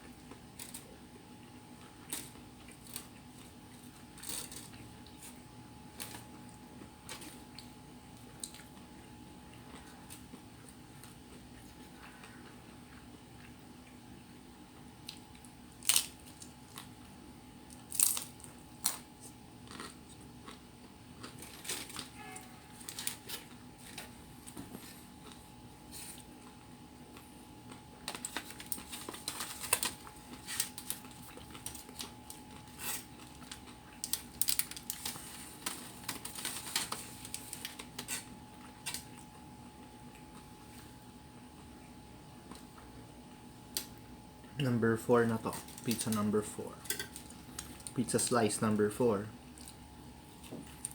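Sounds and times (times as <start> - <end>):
person biting and chewing pizza: 0.0 - 14.0, 14.8 - 44.0
faint steady hum: 0.0 - 50.9.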